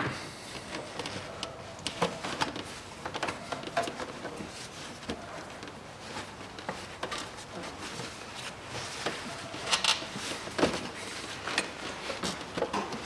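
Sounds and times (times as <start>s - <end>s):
rubber and plastic rustling: 0.0s - 13.0s.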